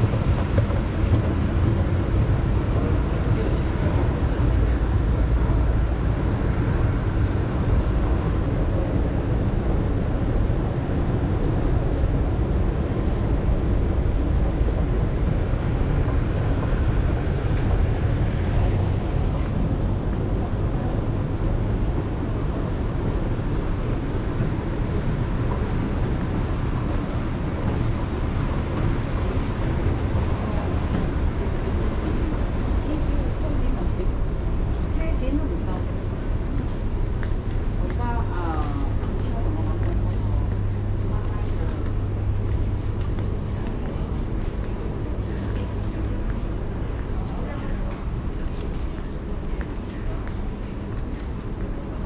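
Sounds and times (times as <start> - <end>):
escalators and ventilation rumble: 0.0 - 52.0
faint crowd murmur: 0.0 - 52.0.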